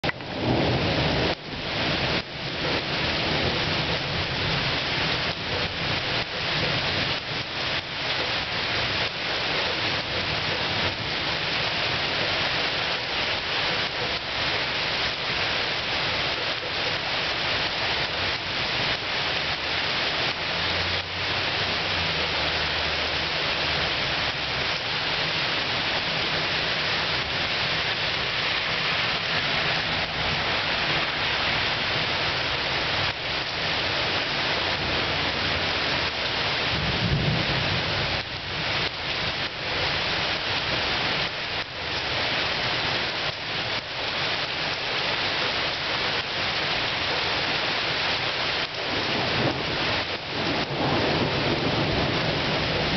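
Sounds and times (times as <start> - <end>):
heavy rain: 0.0 - 52.9.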